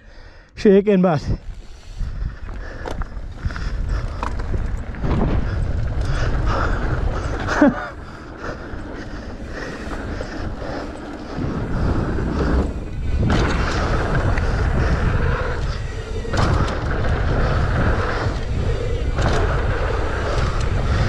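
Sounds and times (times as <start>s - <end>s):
wind on microphone: 1.2s - 21.0s
bike tyres rumbling on gravel: 1.4s - 21.0s
bike knocks and rattles: 2.4s - 21.0s.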